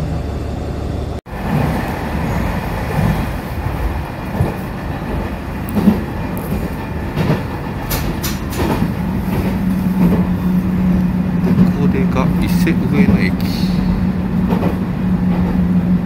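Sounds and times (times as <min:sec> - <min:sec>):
railcar wheels rumbling on rails: 0:00.0 - 0:16.0.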